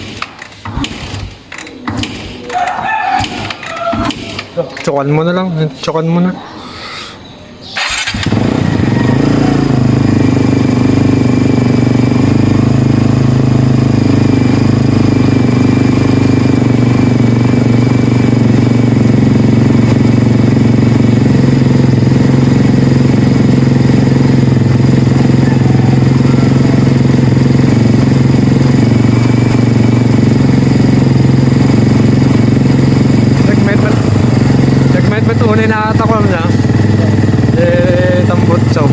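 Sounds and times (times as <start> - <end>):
motorcycle engine idling: 7.8 - 38.9.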